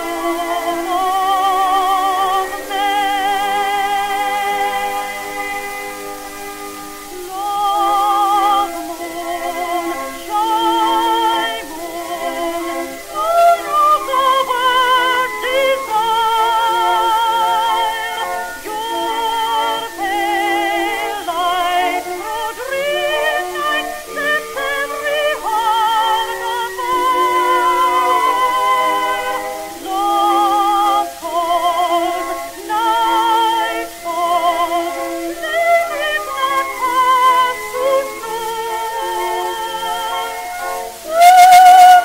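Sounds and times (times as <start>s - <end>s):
slow music with vibrato melody: 0.0s - 42.0s.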